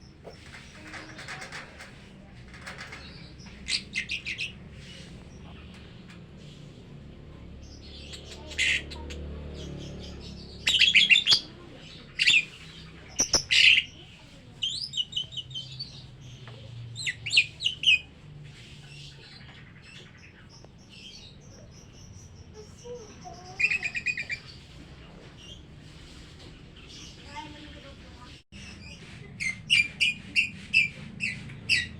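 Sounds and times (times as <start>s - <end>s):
lovebirds chirping: 0.0s - 31.9s.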